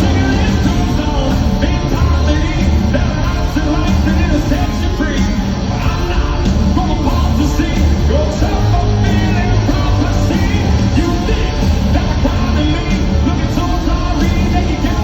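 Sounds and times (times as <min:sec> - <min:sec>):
bass guitar: 0:00.0 - 0:15.0
drums: 0:00.0 - 0:15.0
loud electric guitars: 0:00.0 - 0:15.0
singer: 0:00.0 - 0:15.0.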